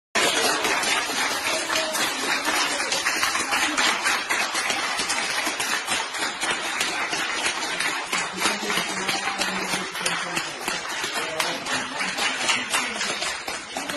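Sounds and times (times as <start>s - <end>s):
group clapping: 0.1s - 13.9s.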